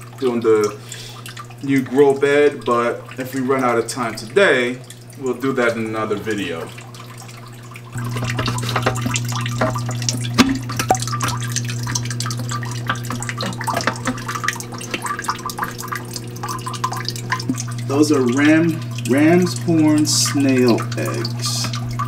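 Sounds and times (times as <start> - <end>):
steady low hum: 0.0 - 22.0
water dripping and splashing: 0.0 - 22.0.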